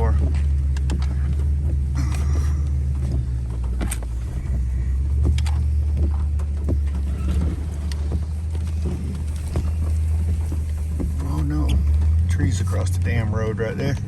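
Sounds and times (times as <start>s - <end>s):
knocks and rattles: 0.0s - 14.0s
vehicle engine and road rumble: 0.0s - 14.0s.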